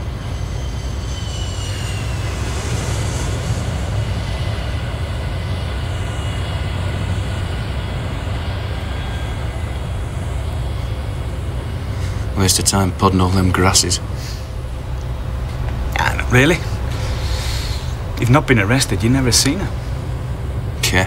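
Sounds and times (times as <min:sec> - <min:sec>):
jet engines rumbling and whining: 0:00.0 - 0:21.0
steady hiss: 0:00.0 - 0:21.0.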